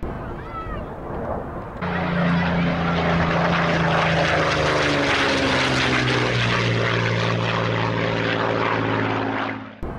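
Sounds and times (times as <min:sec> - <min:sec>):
propeller aircraft engine drone: 0:00.0 - 0:09.9.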